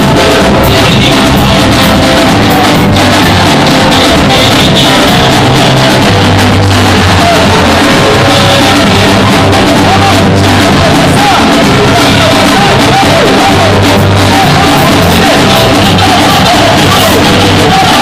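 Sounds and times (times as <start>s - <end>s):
band playing praise music: 0.0s - 18.0s
person singing: 0.0s - 18.0s
sustained bass line: 0.0s - 18.0s.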